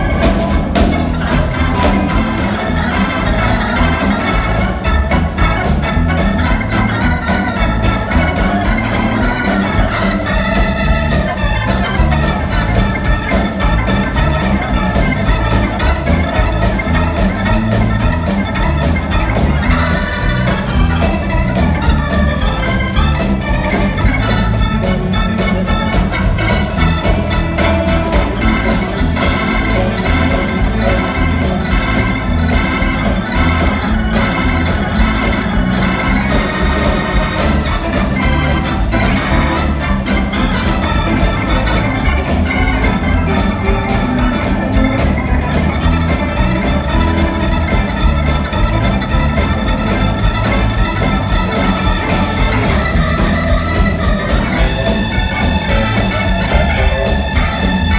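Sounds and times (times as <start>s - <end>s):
live blues band playing: 0.0s - 57.9s
organ: 0.0s - 57.9s.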